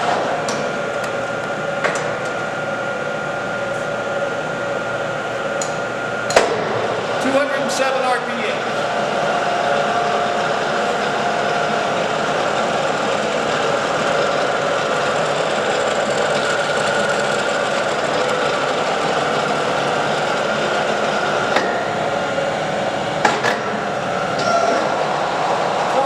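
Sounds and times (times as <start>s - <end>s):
lathe gearing whirring: 0.0s - 26.0s.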